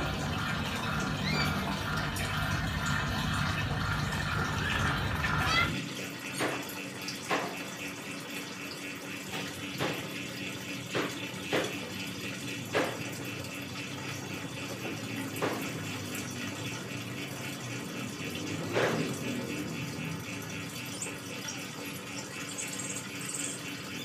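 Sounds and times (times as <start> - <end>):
fuel gurgles: 0.0 - 7.6, 9.0 - 24.0.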